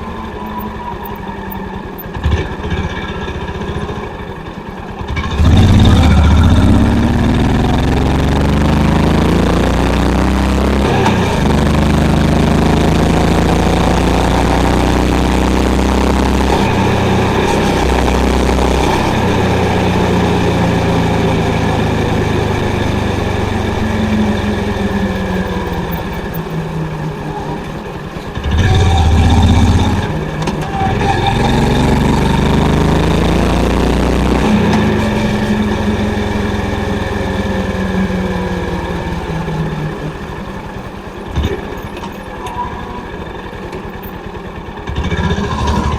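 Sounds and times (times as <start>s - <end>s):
motorcycle engine and exhaust: 0.0s - 45.9s.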